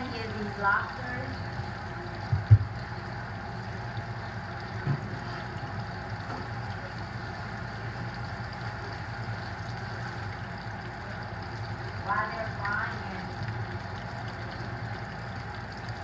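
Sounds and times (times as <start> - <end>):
deep-frying sizzle in oil: 0.0 - 16.0
low even hum: 0.0 - 16.0.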